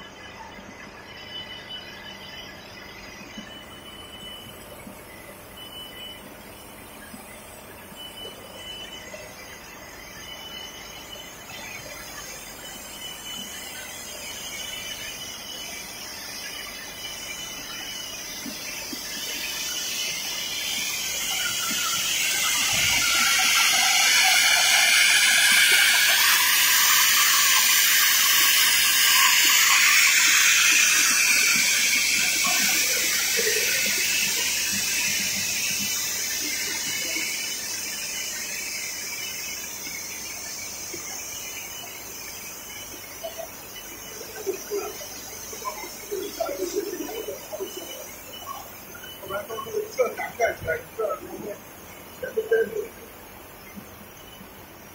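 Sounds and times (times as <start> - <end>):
machinery hiss with squealing tones: 0.0 - 54.9.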